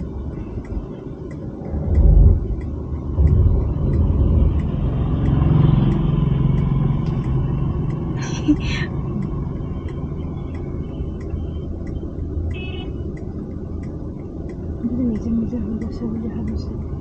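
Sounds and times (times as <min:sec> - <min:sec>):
engine and tyres rumbling: 0:00.0 - 0:17.0
turn indicator ticking: 0:00.0 - 0:17.0.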